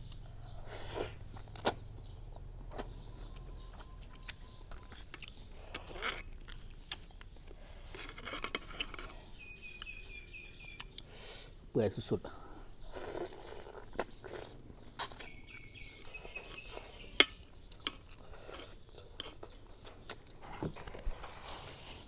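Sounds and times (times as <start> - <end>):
person chewing: 0.1 - 11.5, 12.7 - 20.5.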